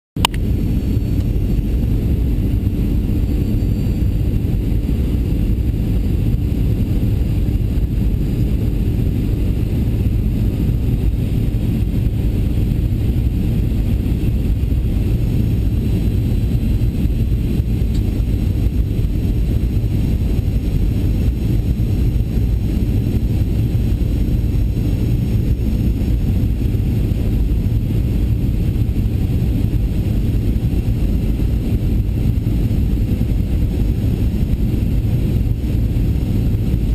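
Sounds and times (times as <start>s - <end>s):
faint steady whine: 0.2s - 36.9s
jet engine and airflow roar: 0.2s - 36.9s.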